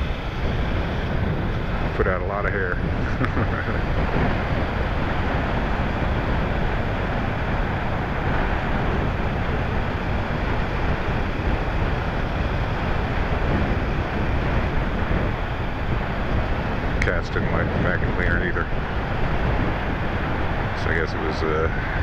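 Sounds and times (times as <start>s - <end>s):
motorcycle engine and road noise: 0.0s - 22.0s
wind rushing over microphone: 0.0s - 22.0s.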